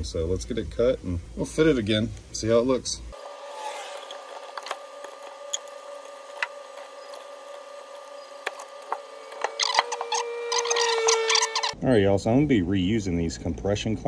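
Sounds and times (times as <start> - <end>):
steady hum: 0.0 - 11.8.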